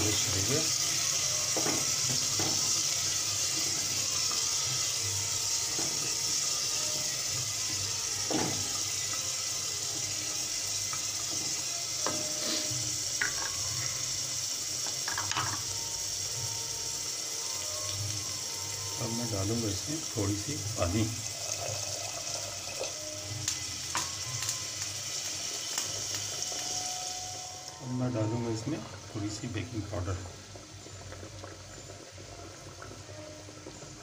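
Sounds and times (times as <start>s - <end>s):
pressure cooker hissing: 0.0s - 34.0s.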